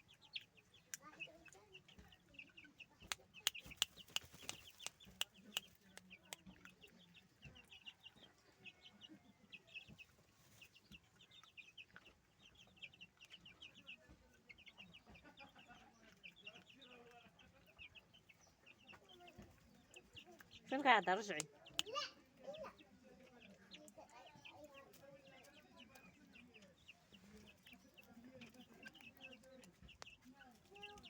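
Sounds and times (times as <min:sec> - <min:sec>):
chickens peeping and clucking: 0:00.0 - 0:31.0.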